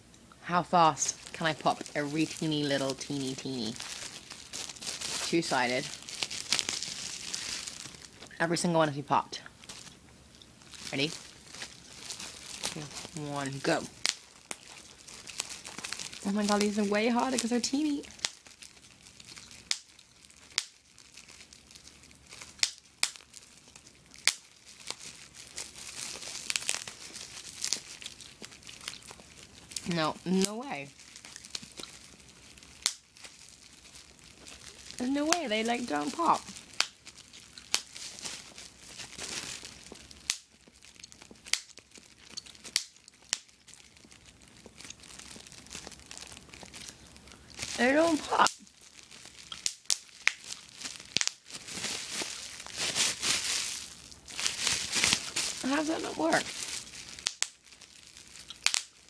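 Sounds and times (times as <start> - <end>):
bubble wrap crinkling: 0.0 - 59.0
bubble wrap pops: 1.1 - 8.4, 13.8 - 30.0, 30.9 - 55.7, 56.4 - 59.0.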